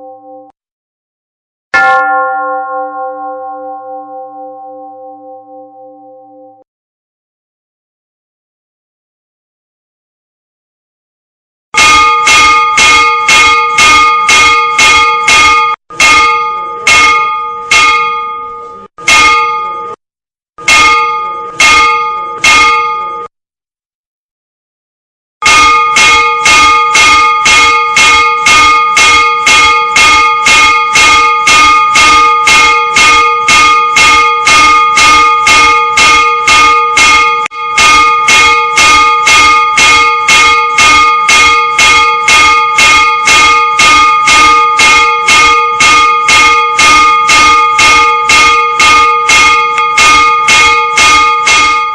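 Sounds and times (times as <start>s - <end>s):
church bell strikes: 0.0s - 0.6s, 1.8s - 6.7s, 11.8s - 20.0s, 20.6s - 23.3s, 25.4s - 51.9s.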